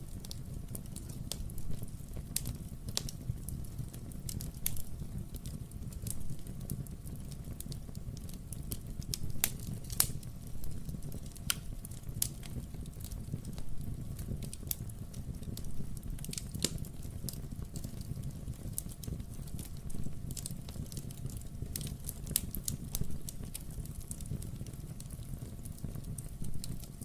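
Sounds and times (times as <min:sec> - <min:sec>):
fire rumbling: 0:00.0 - 0:27.0
logs crackling and popping: 0:00.0 - 0:27.0.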